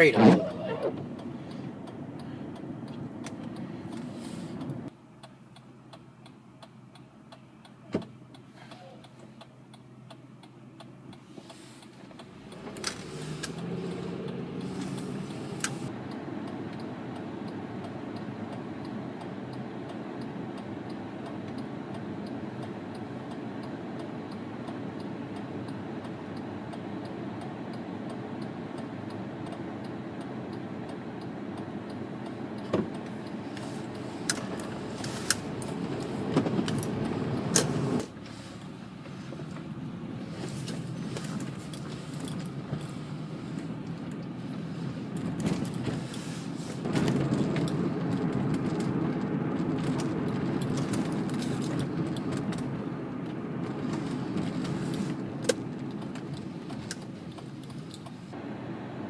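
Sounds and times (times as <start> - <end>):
turn signal relay clicking: 0.0 - 58.4
car engine: 0.0 - 59.0
road noise: 0.0 - 59.0.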